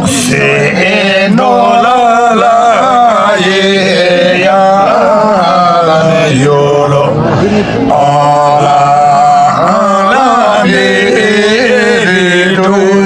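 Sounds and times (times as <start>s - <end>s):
men singing folk song: 0.0s - 13.0s.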